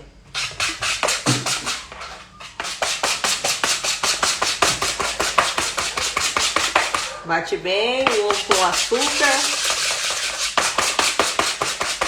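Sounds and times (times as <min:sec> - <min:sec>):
whisk beating in plastic bowl: 0:00.3 - 0:07.2, 0:07.9 - 0:12.0.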